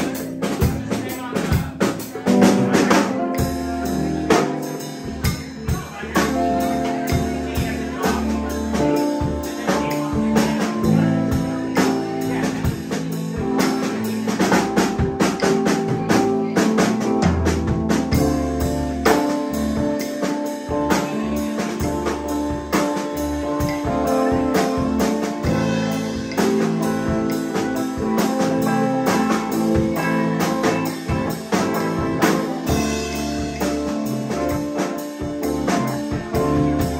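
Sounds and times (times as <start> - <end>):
bass guitar: 0.0 - 36.9
drum kit: 0.0 - 36.9
electric guitar: 0.0 - 36.9.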